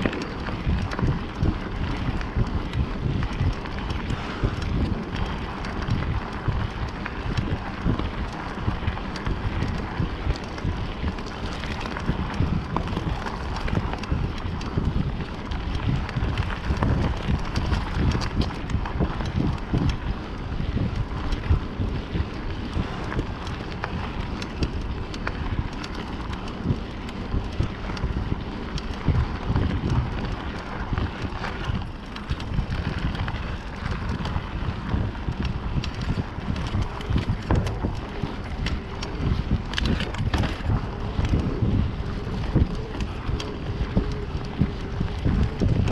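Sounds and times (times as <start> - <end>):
bike rattling: 0.0 - 45.9
bike tyres crunching on gravel: 0.0 - 45.9
wind buffeting microphone: 0.0 - 45.9.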